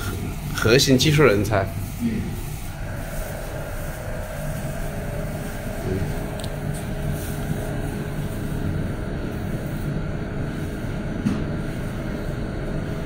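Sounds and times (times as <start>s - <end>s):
machines humming and whirring: 0.0s - 13.0s.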